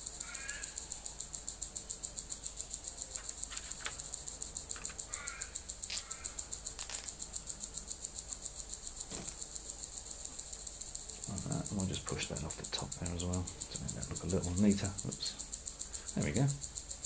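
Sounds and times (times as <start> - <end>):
high-pitched pulsing buzz: 0.0 - 17.0.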